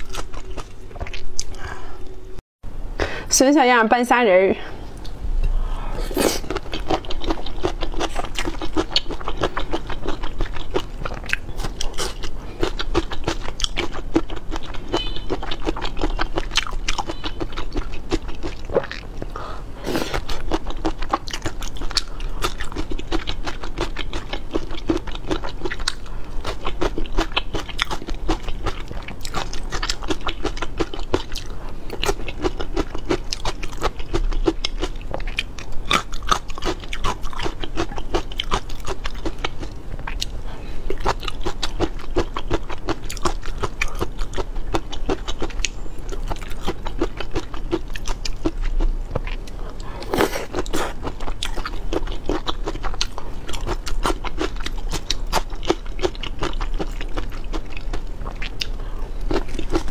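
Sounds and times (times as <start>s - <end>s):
crunchy chewing of food: 0.0s - 2.1s, 4.9s - 59.9s.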